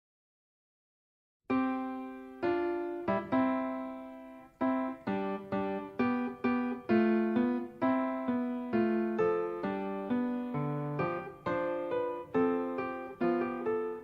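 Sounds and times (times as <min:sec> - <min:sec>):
keyboard melody of single notes: 0:01.5 - 0:14.0.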